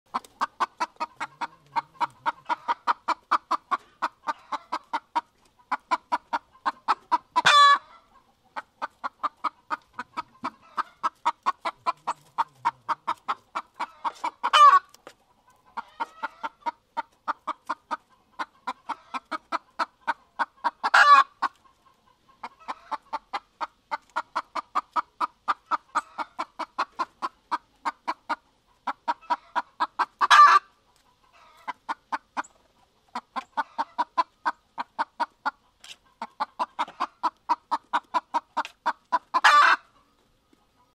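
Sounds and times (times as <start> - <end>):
chickens clucking: 0.1 - 40.9.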